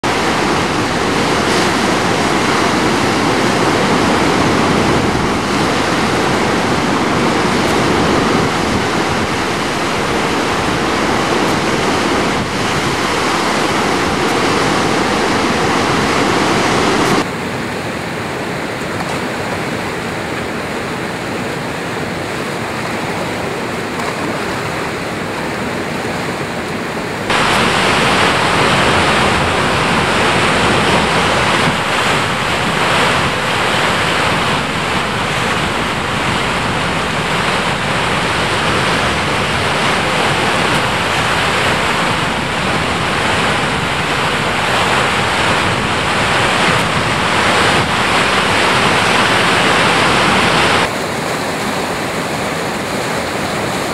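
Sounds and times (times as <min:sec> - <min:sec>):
river rapid rushing: 0:00.0 - 0:53.9.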